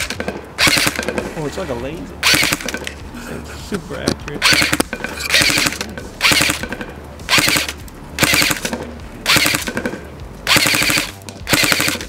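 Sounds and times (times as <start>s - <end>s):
airsoft gun firing bursts: 0.0s - 1.4s, 2.2s - 2.9s, 4.4s - 12.0s.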